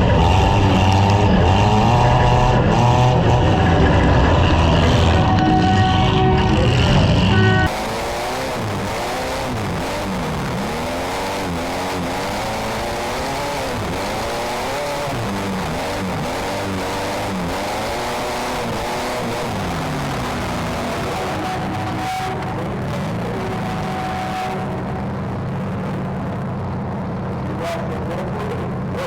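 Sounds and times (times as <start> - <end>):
car engines revving hard: 0.0 - 29.0
noisy background: 0.0 - 29.0.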